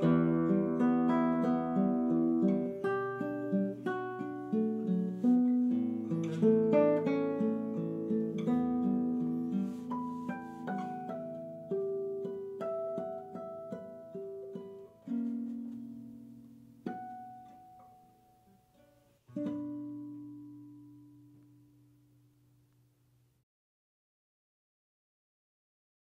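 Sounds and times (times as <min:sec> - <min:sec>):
classical guitar fingerstyle: 0:00.0 - 0:23.3.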